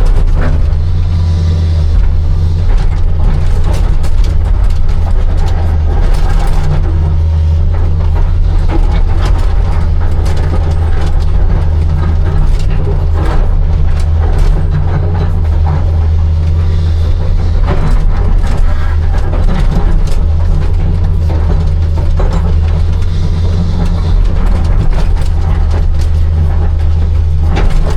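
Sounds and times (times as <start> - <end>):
digging clanks and knocks: 0.0 - 27.9
excavator diesel engine running: 0.0 - 27.9.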